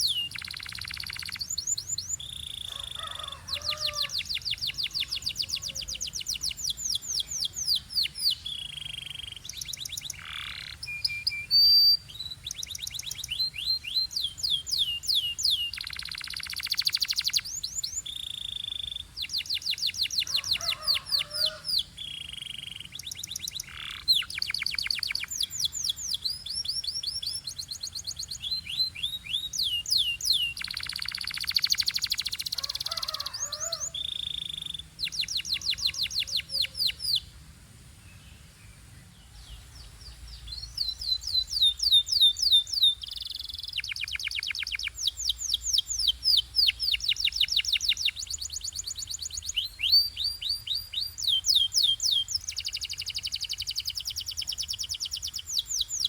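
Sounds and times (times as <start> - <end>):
canary singing: 0.0 - 37.3, 39.8 - 56.0.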